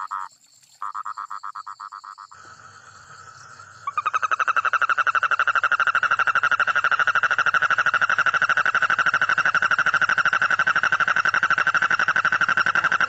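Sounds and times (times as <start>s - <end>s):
toad trilling: 0.0s - 13.0s.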